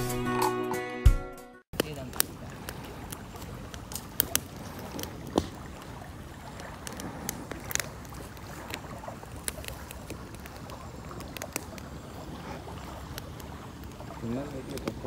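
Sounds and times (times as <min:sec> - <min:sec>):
wood fire crackling and popping: 0:01.7 - 0:15.0
flowing stream: 0:01.8 - 0:15.0.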